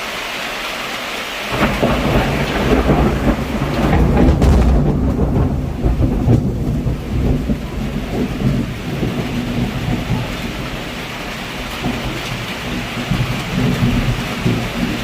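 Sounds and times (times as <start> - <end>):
heavy rain pouring: 0.0 - 15.0
low rumble of thunder: 1.5 - 15.0.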